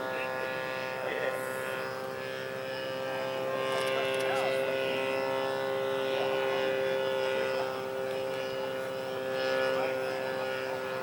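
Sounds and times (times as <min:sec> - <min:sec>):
model plane engine drone: 0:00.0 - 0:11.0.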